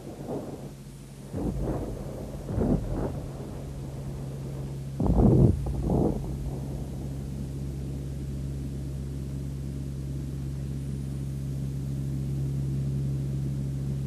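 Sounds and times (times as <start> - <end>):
noise hiss: 0.0 - 14.0
propeller aircraft engines droning: 0.0 - 14.0.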